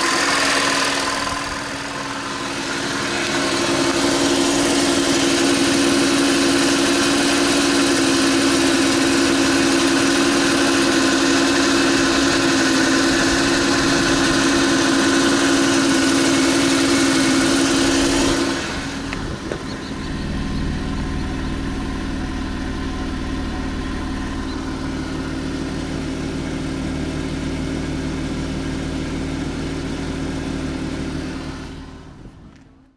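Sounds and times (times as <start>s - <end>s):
petrol engine running: 0.0s - 32.9s.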